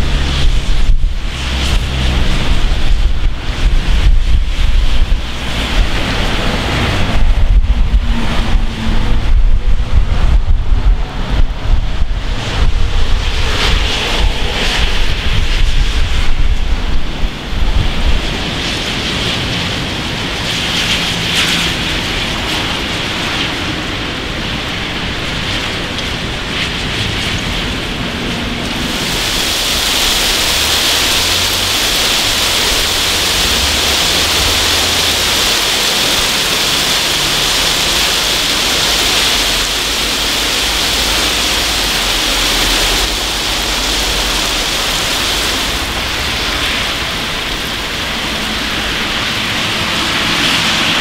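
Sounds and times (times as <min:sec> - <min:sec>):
heavy rain: 0:00.0 - 0:51.0
wind buffeting microphone: 0:00.0 - 0:51.0.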